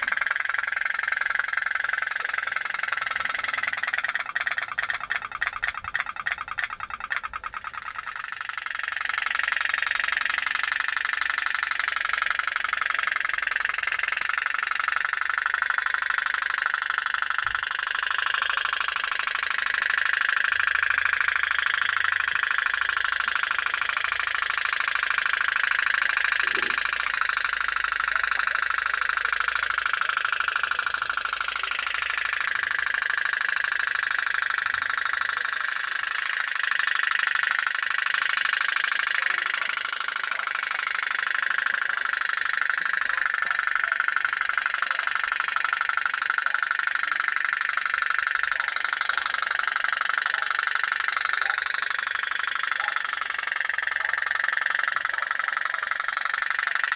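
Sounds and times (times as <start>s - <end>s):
pop-pop boat engine putting: 0.0s - 56.9s.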